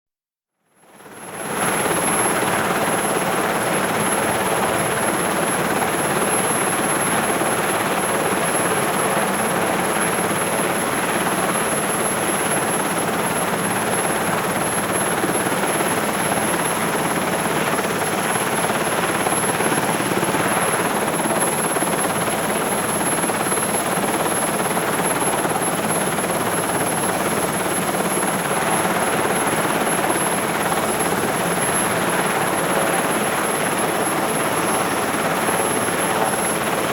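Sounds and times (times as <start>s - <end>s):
helicopter engines idling: 1.4s - 36.9s.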